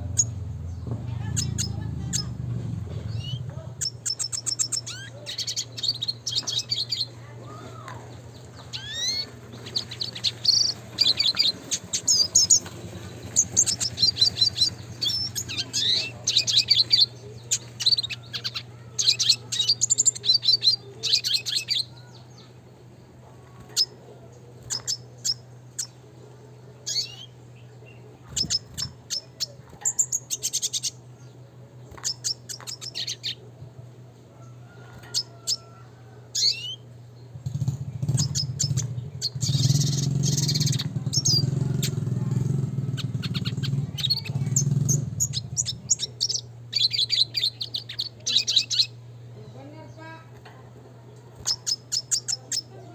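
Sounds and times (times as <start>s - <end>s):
bird chirping and calling: 0.0s - 33.7s, 34.4s - 52.9s
steady low hum: 0.0s - 52.9s.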